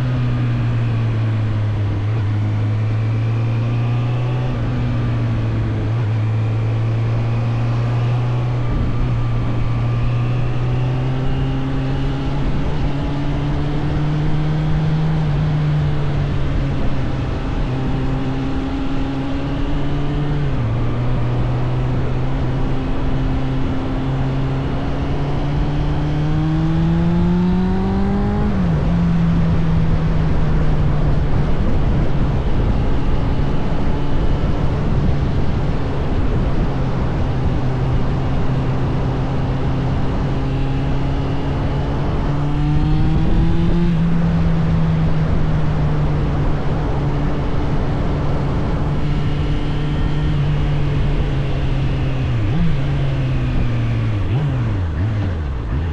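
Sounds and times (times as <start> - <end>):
motorcycle engine accelerating: 0.0 - 55.9
wind and road noise: 0.0 - 55.9.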